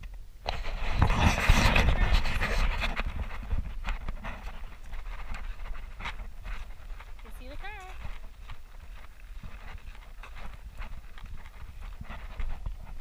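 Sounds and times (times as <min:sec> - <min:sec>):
microphone rushing noise: 0:00.4 - 0:13.0
footsteps on gravel: 0:00.6 - 0:13.0.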